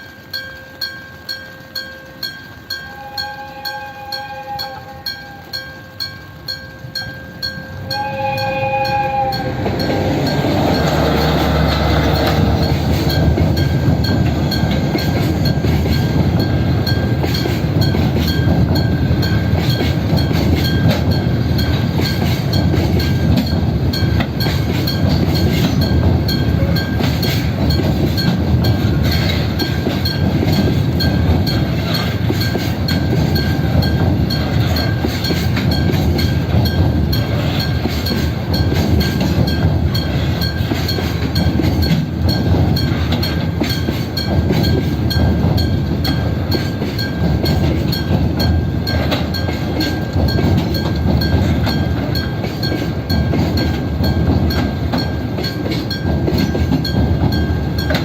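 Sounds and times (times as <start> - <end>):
level crossing warning bell: 0.0 - 58.0
train wheels rumbling on rails: 0.0 - 58.0.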